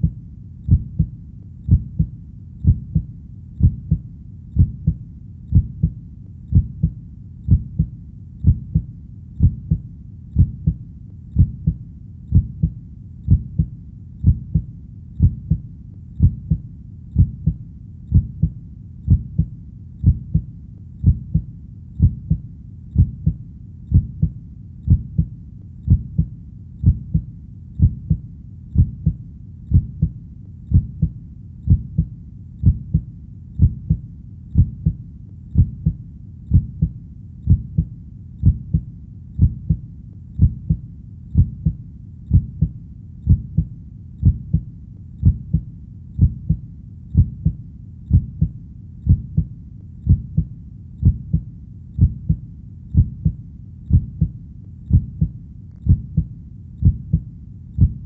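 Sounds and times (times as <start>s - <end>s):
heartbeat lub-dub thumps: 0.0s - 58.0s.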